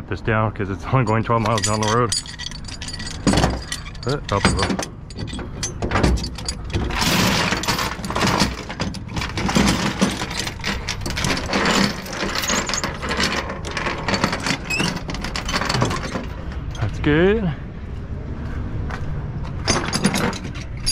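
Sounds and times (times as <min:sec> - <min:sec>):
chain clinking on metal deck: 0:01.0 - 0:16.9, 0:19.6 - 0:20.9.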